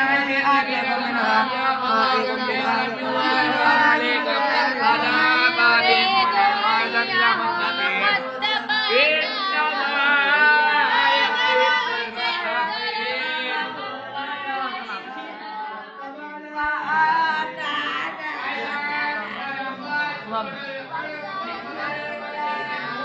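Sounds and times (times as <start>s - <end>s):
people chanting recitation: 0.0s - 23.0s.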